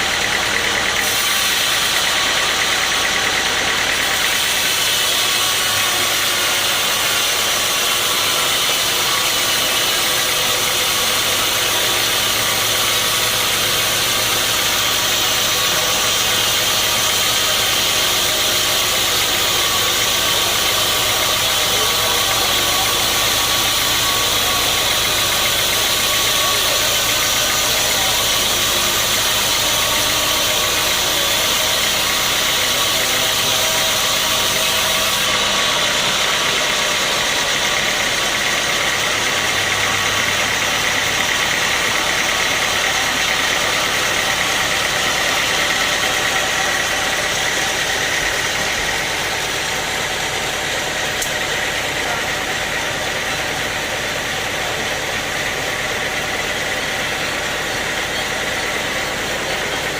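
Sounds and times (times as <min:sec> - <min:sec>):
machinery whine: 0:00.0 - 0:59.9
sawmill machinery drone: 0:00.0 - 0:59.9.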